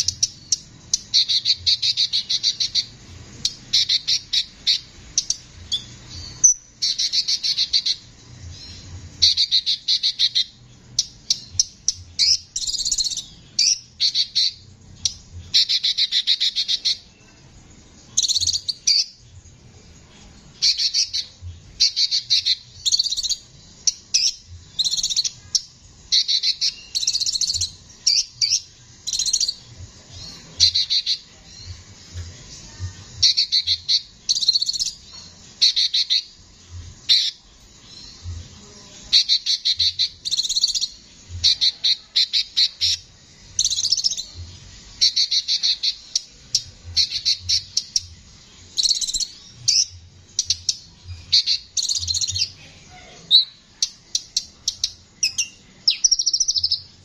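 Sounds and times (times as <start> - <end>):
sunbird singing harshly: 0.0 - 17.3, 18.0 - 19.3, 20.5 - 57.0.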